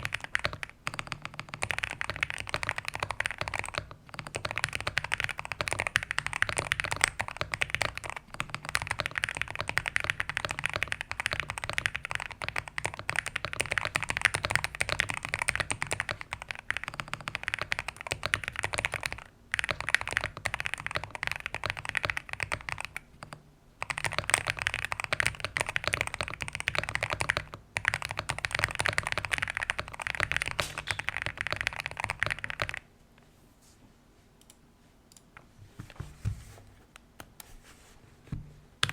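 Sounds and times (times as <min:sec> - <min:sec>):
mechanical keyboard typing: 0:00.0 - 0:32.8.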